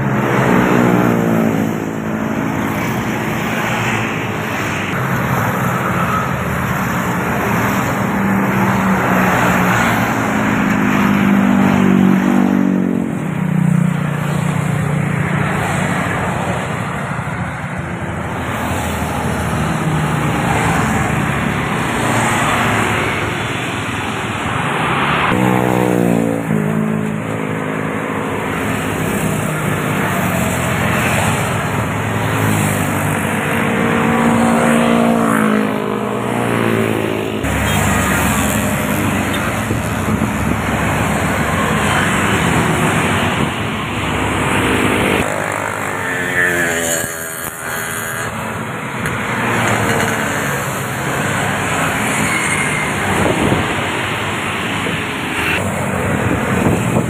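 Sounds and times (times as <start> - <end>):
buses and motorcycles passing: 0.0 - 57.0.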